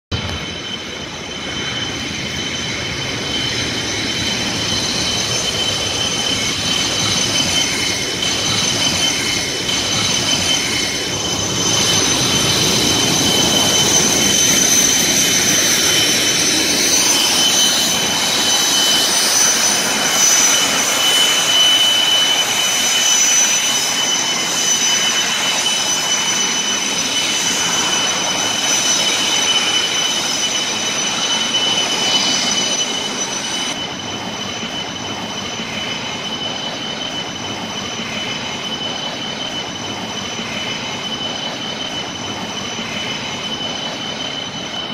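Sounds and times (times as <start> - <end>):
high whining tones: 0.1 - 44.9
jet engine blasting: 0.1 - 44.9.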